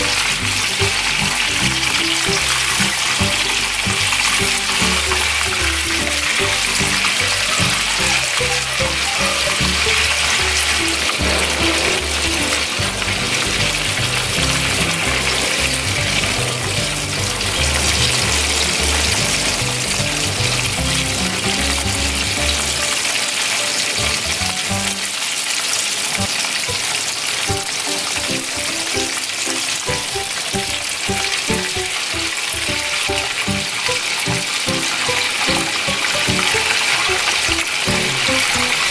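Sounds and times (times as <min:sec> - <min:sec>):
crab deep-frying in oil: 0:00.0 - 0:38.9.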